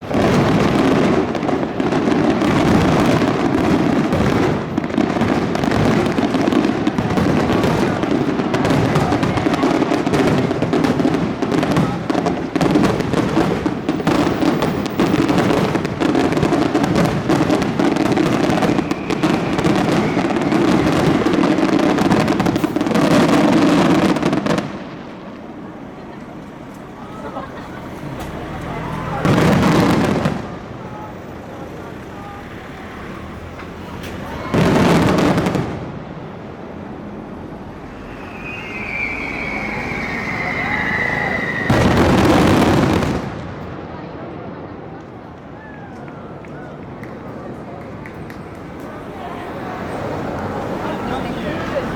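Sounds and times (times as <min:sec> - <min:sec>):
fireworks cracking and booming: 0:00.0 - 0:51.9.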